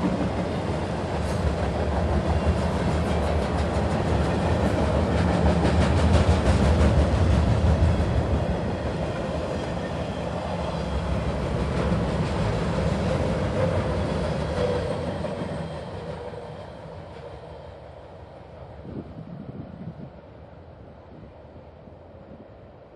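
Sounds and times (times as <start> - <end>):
freight train rolling past: 0.0 - 22.9.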